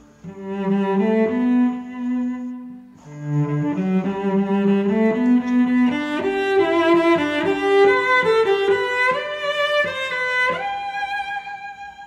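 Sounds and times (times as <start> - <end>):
bowed string melody: 0.0 - 12.0.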